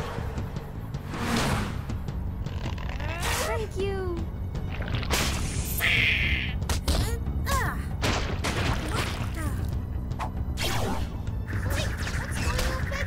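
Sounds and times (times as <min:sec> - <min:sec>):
background music with low pulse: 0:00.0 - 0:13.0.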